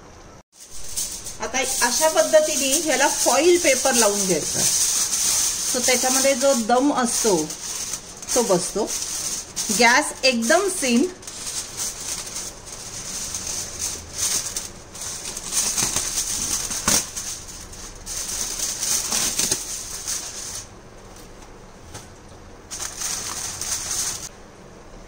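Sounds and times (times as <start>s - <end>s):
aluminium foil crinkling: 0.6s - 24.3s.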